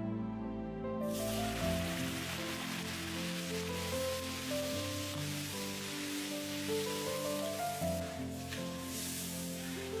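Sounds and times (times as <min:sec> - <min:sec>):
music with sustained notes: 0:00.0 - 0:10.0
faint hiss: 0:01.1 - 0:10.0.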